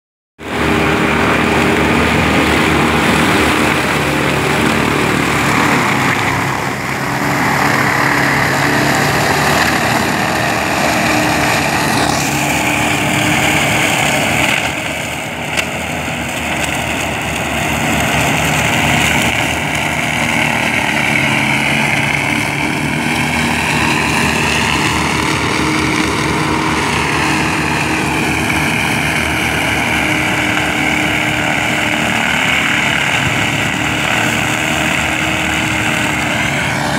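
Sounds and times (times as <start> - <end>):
engine running steadily: 0.4 - 36.9.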